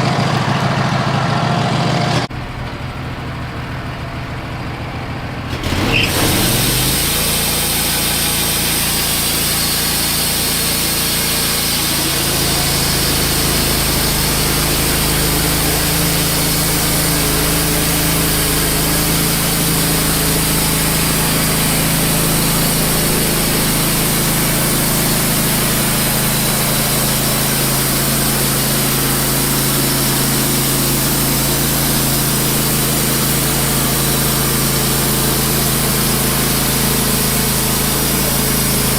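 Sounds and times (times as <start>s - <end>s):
sawmill engine running: 0.0s - 38.9s
band blade sawing through log: 5.7s - 38.9s.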